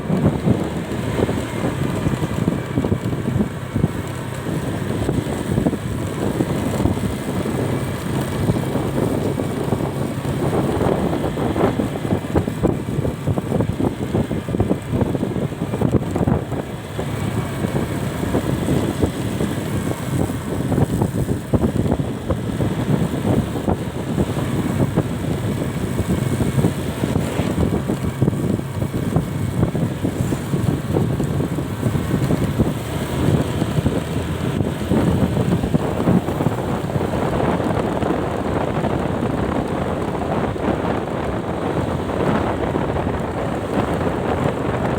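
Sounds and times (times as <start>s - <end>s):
road and engine noise: 0.0s - 44.9s
wind buffeting microphone: 0.0s - 44.9s.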